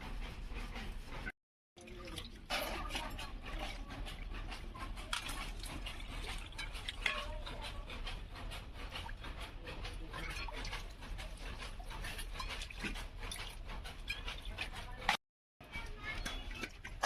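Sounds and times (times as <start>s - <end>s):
scourer scrubbing metal pot: 0.0s - 17.0s.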